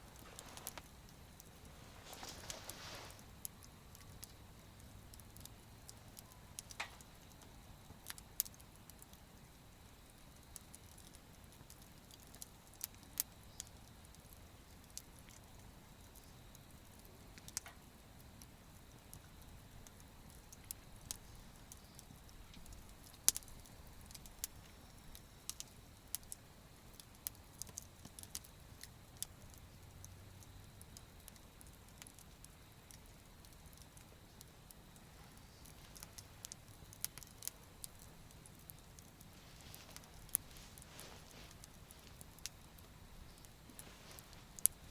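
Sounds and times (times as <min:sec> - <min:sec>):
burning wood popping: 0:00.0 - 0:44.9
campfire crackling: 0:00.0 - 0:44.9.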